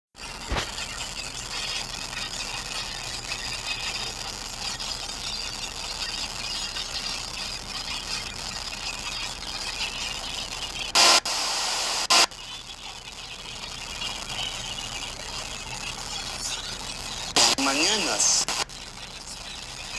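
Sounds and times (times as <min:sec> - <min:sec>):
loud burst of radio static: 0:00.2 - 0:06.6, 0:09.4 - 0:19.9
fluttering radio hiss: 0:00.2 - 0:19.9.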